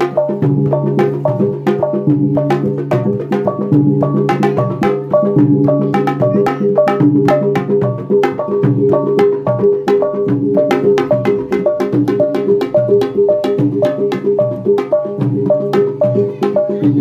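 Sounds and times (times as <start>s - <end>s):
barrel drums beaten fast: 0.0s - 17.0s.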